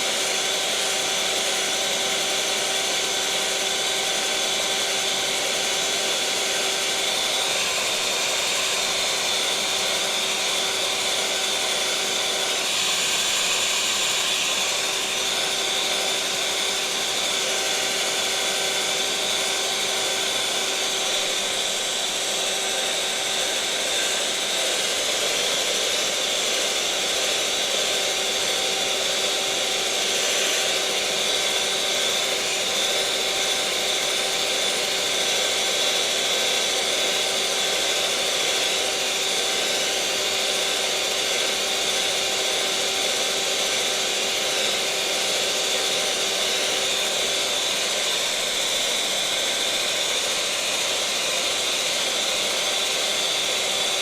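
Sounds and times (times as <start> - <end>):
electric mixer motor whirring: 0.0 - 54.0.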